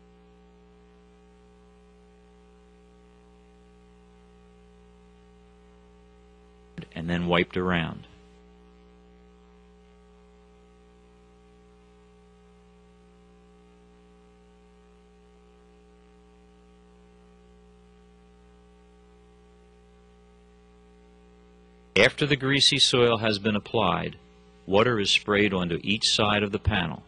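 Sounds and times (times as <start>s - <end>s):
steady electrical hum: 0.0s - 27.0s.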